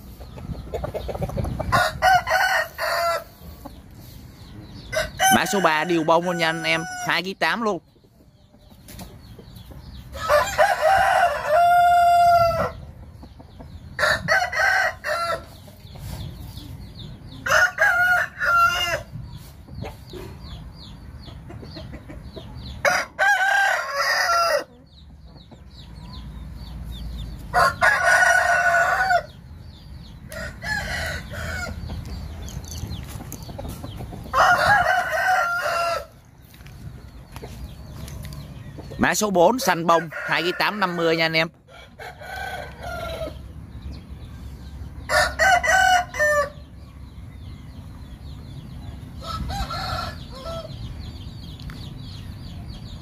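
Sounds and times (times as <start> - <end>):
roosters crowing: 0.0 - 7.8, 9.8 - 21.0, 21.9 - 36.7, 37.9 - 52.6.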